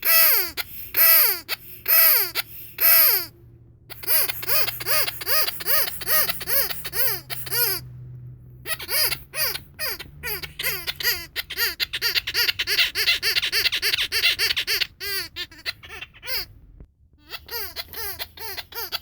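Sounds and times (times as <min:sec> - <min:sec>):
rubber squeaky toy squeaking: 0:00.0 - 0:07.9, 0:08.6 - 0:19.0.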